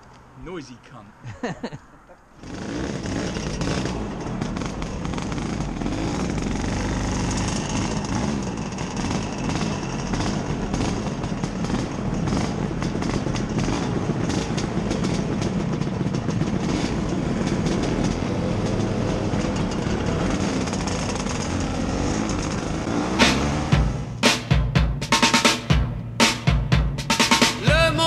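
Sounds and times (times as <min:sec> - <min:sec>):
scooter engine running: 0:02.5 - 0:28.0.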